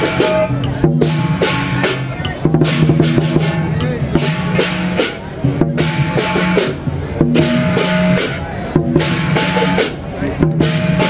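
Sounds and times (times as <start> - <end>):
large drum beating: 0.0 - 11.0.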